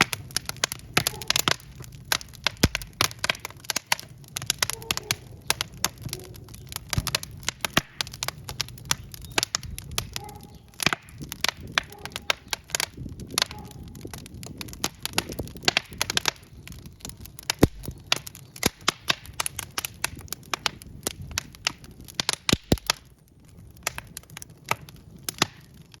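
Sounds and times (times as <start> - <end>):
fire crackling and popping: 0.0 - 26.0
low rumble of flames: 0.0 - 26.0.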